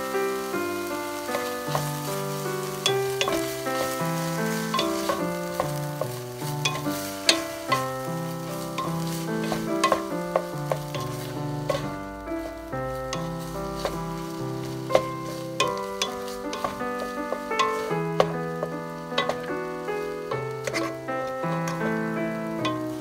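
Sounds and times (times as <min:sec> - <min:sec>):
food sizzling in a frying pan: 0:00.0 - 0:23.0
spatula clacking against pan: 0:01.2 - 0:23.0.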